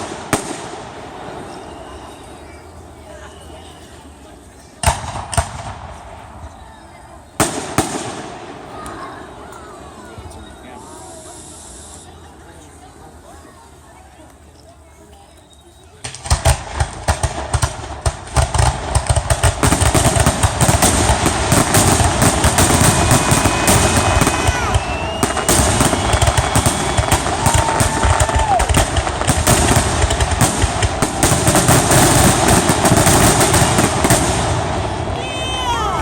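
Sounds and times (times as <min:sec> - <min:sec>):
fireworks whistling: 0:00.0 - 0:12.7, 0:15.2 - 0:36.0
fireworks bangs and crackles: 0:00.0 - 0:14.5, 0:15.2 - 0:36.0.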